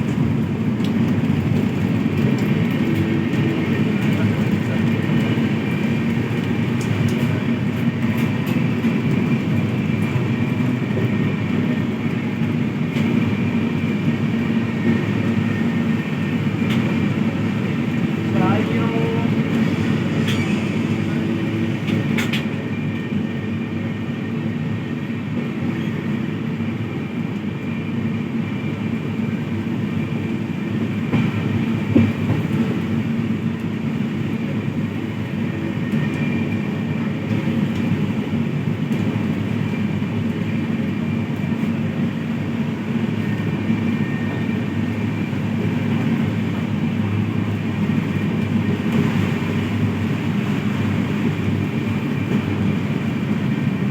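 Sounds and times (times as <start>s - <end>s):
train rumbling on rails: 0.0s - 53.9s.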